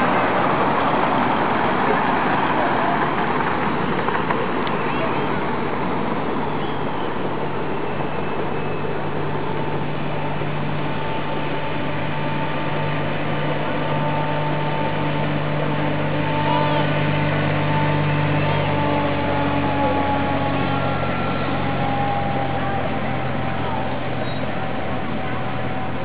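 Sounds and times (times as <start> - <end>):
miniature train rumbling on track: 0.0 - 26.0.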